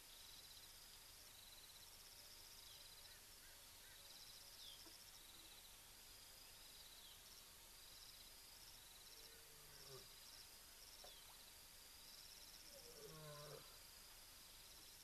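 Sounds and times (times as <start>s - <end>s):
crickets trilling: 0.1s - 15.0s.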